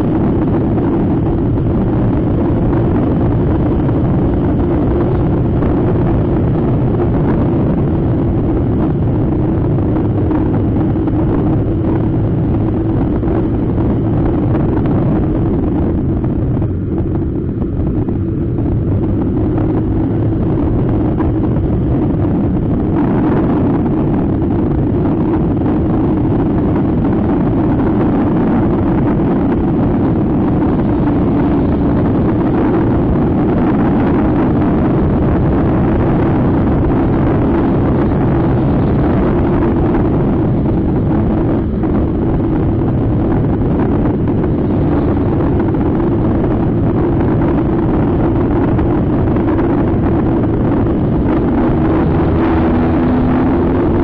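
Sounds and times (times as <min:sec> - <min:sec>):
scooter engine drone: 0:00.0 - 0:54.0
wind buffeting microphone: 0:00.0 - 0:54.0.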